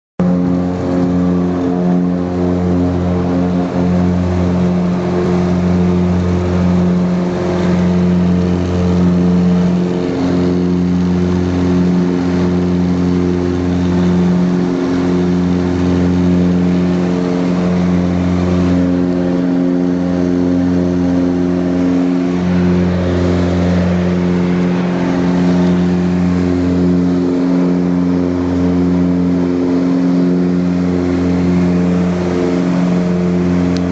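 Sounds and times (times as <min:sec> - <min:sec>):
propeller aircraft engines droning: 0:00.2 - 0:33.9.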